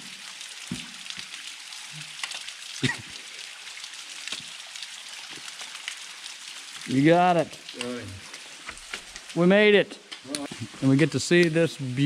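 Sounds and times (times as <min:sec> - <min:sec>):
water trickling down cascade: 0:00.0 - 0:12.0.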